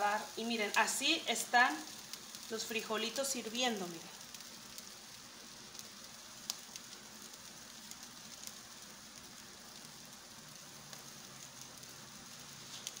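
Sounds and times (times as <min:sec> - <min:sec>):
food sizzling in pans: 0:00.0 - 0:13.0.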